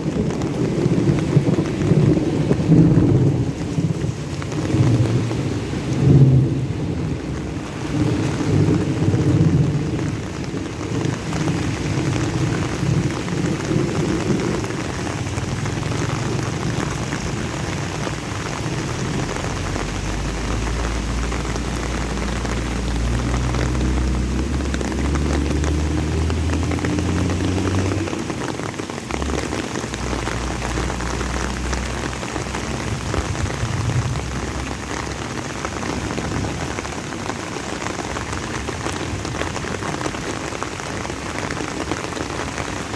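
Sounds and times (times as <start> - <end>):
rain pattering: 0.0 - 42.9
thunder rumbling: 0.0 - 42.9.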